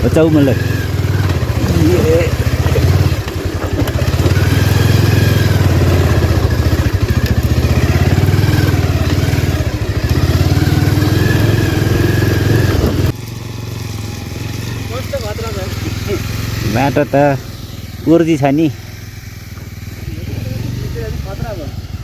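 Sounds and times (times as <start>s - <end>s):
motorcycle engine under load: 0.0s - 22.0s.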